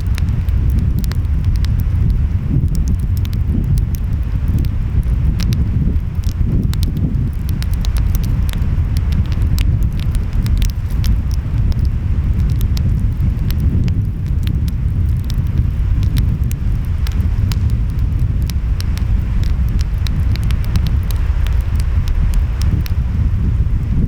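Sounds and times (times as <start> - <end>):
wind: 0.0 - 24.0
wood fire crackling and popping: 0.0 - 24.0.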